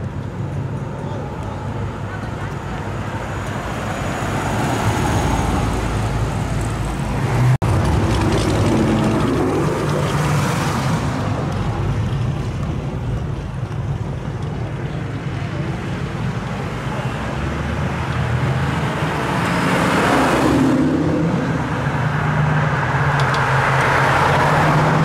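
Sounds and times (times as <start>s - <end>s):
cars driving past: 0.0s - 25.0s
tyre and road noise: 0.0s - 25.0s.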